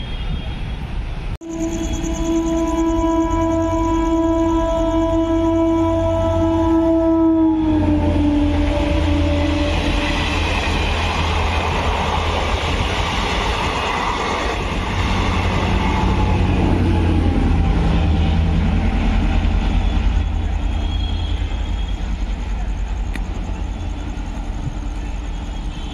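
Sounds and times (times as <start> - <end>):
train coaches rumbling on rails: 0.0 - 25.9
train horn: 1.4 - 22.5, 24.9 - 25.9.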